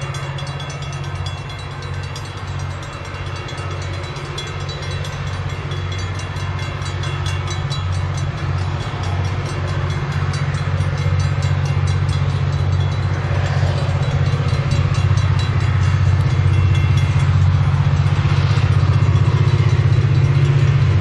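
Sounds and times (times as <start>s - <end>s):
diesel locomotive drone: 0.0s - 21.0s
level crossing bells ringing: 0.0s - 21.0s.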